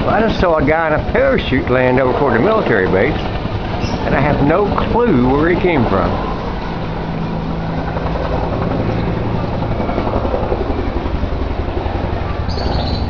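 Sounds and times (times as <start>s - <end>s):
helicopter engine drone: 0.0s - 13.0s
helicopter rotor beating: 0.0s - 13.0s.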